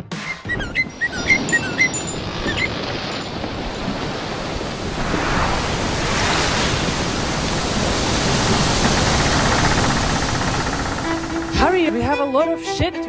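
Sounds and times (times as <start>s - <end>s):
ocean waves rushing: 0.6s - 12.1s.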